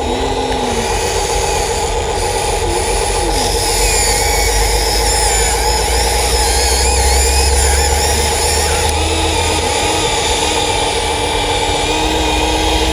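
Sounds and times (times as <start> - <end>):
excavator engine running: 0.0 - 12.9.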